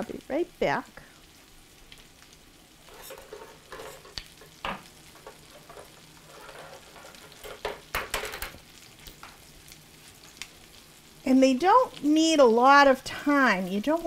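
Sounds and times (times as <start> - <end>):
oil crackling and popping: 0.0 - 14.0
shrimp cakes sizzling in a frying pan: 0.0 - 14.0.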